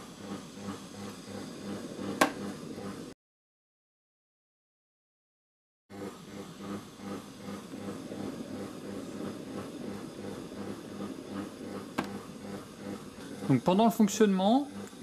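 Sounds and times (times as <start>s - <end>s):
food processor motor hum: 0.0s - 3.2s, 5.9s - 15.0s.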